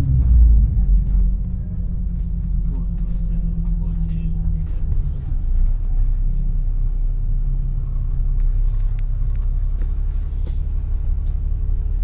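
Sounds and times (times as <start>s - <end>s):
bus engine low rumble: 0.0s - 12.0s.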